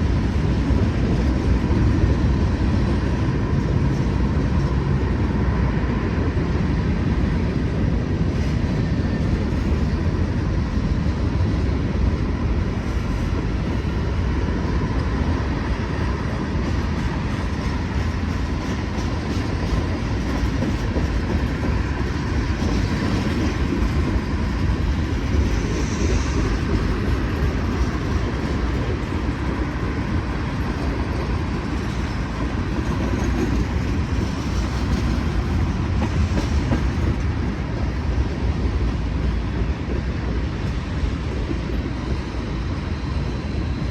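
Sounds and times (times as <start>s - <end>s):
freight train rolling past: 0.0s - 43.9s.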